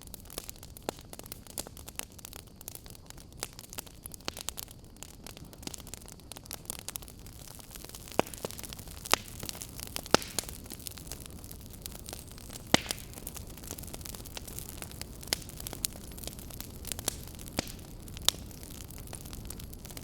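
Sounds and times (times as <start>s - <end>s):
fire crackling: 0.0s - 20.0s
fire rumbling and hissing: 0.0s - 20.0s
sharp fire pops: 0.0s - 20.0s.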